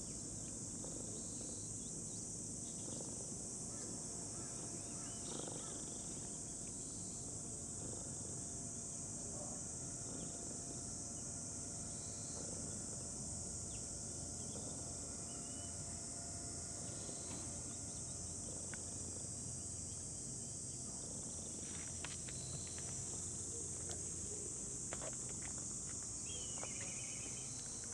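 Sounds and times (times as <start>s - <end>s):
insects buzzing: 0.0s - 27.9s.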